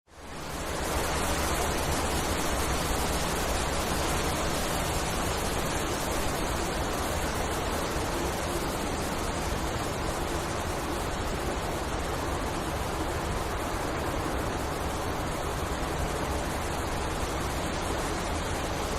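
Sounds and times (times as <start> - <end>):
wind blowing through forest: 0.1 - 18.9.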